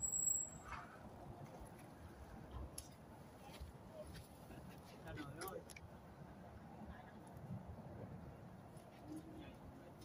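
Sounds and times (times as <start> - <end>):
faint outdoor rumble: 0.0 - 10.0.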